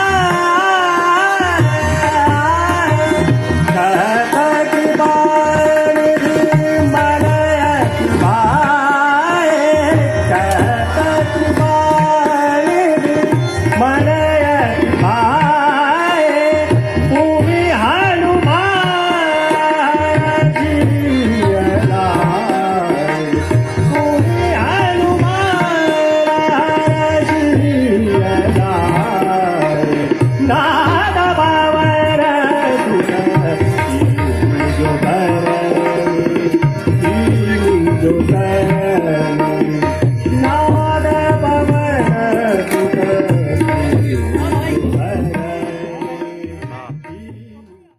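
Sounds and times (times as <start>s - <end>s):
harmonium: 0.0s - 47.9s
man singing: 0.0s - 47.9s
tabla strokes: 0.0s - 47.9s.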